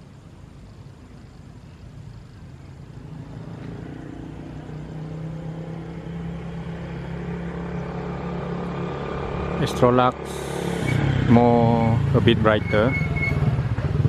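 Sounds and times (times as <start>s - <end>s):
motor vehicle engine approaching: 0.9s - 14.0s.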